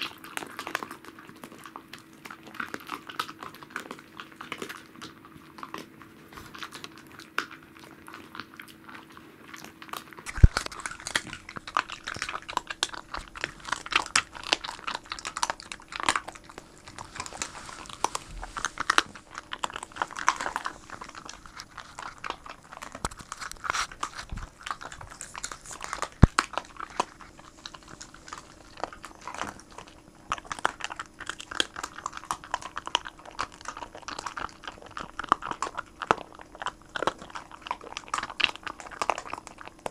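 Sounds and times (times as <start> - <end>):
dog crunching and chewing bone: 0.0 - 39.9.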